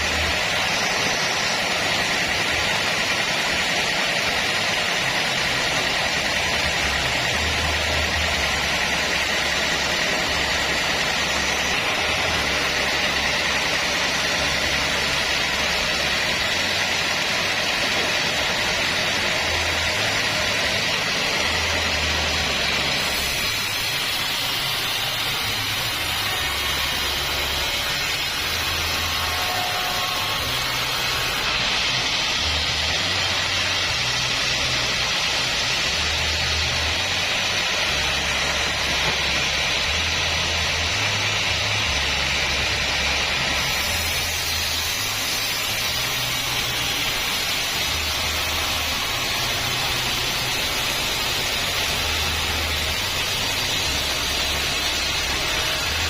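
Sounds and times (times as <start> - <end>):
band sawmill blade sawing wood: 0.0 - 56.0.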